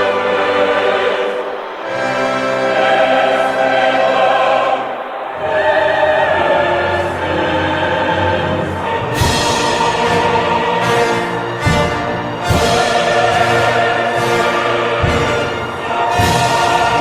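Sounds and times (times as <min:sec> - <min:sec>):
choir singing sustained chords: 0:00.0 - 0:17.0
orchestra: 0:00.0 - 0:17.0.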